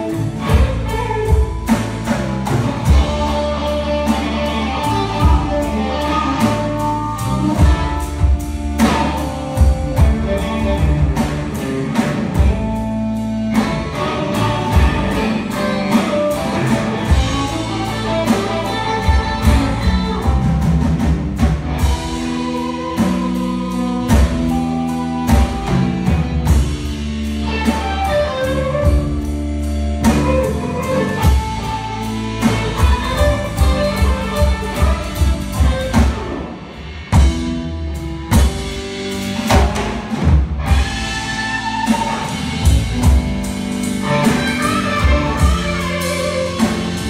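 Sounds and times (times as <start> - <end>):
blues-rock band playing: 0.0 - 47.0
electric guitar: 0.0 - 47.0
steady drum beat: 0.0 - 47.0.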